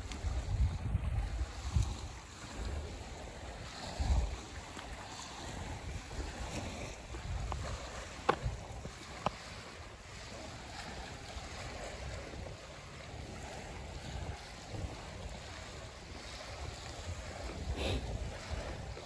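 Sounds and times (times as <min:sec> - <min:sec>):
small waves lapping shore: 0:00.0 - 0:19.0
wind buffeting microphone: 0:00.0 - 0:19.0.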